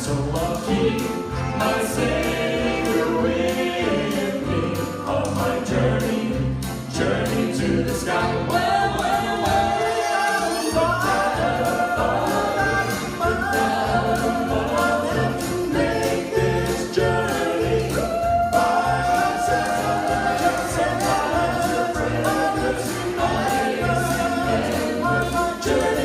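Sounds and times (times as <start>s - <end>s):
backing music with steady beat: 0.0s - 26.0s
group singing in harmony: 0.0s - 26.0s.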